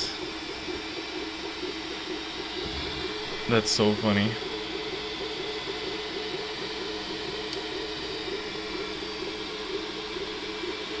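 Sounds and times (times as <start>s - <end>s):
stepper motors humming: 0.0s - 11.0s.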